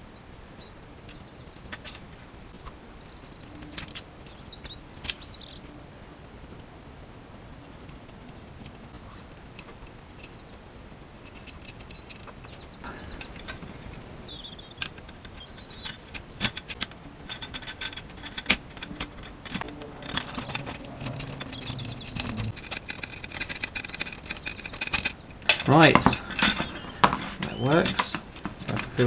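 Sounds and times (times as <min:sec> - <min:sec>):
faint birds chirping: 0:00.0 - 0:29.0.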